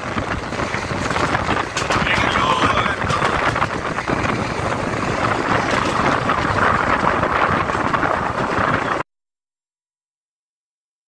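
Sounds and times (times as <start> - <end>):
moving train rushing noise: 0.0 - 9.0
wind buffeting microphone: 0.0 - 9.1.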